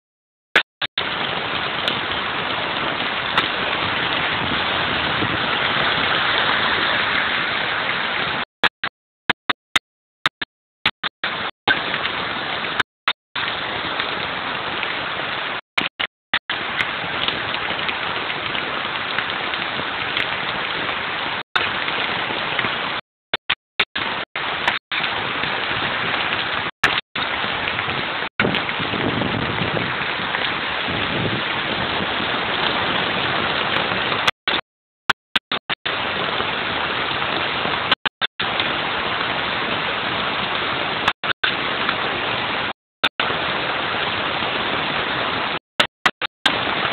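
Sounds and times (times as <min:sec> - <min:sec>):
heavy rain pouring: 0:00.9 - 0:08.5, 0:11.2 - 0:23.0, 0:23.9 - 0:34.6, 0:35.4 - 0:46.9.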